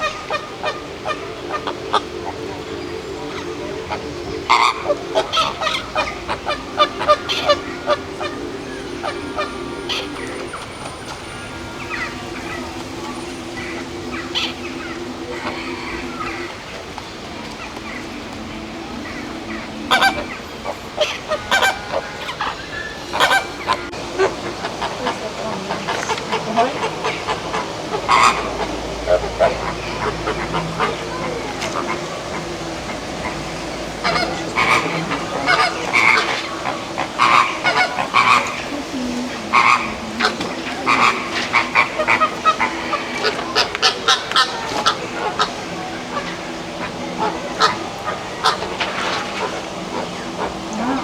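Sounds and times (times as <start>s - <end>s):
birds honking: 0.0s - 51.0s.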